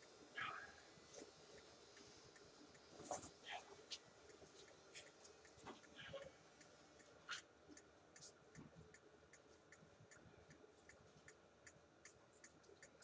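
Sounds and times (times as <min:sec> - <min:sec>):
wall clock ticking: 0:01.5 - 0:13.0.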